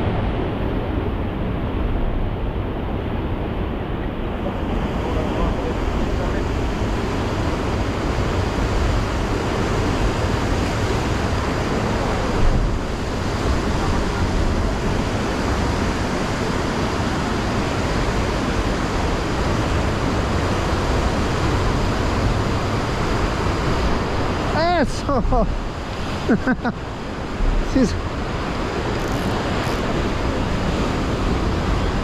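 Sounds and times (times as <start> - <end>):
sea surf breaking over rocks: 0.0 - 32.0
wind rumbling on microphone: 0.0 - 32.0.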